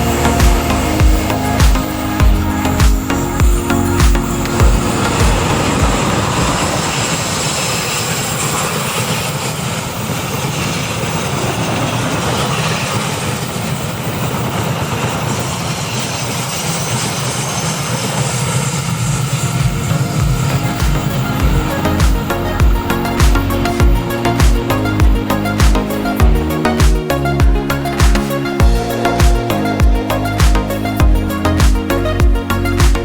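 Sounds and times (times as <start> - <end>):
passenger train running past: 0.0 - 31.6.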